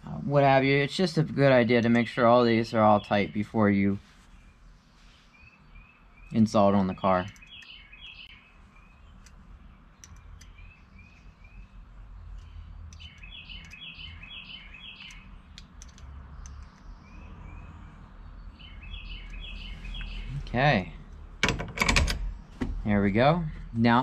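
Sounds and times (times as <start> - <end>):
steady low hum: 0.0 - 24.0
bird chirping: 1.6 - 21.2.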